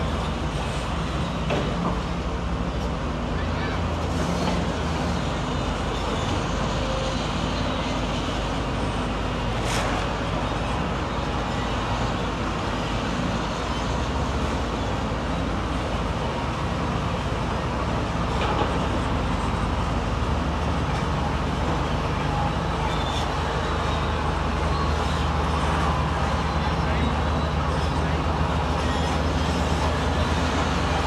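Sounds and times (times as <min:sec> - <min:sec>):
diesel construction machinery running: 0:00.0 - 0:31.0.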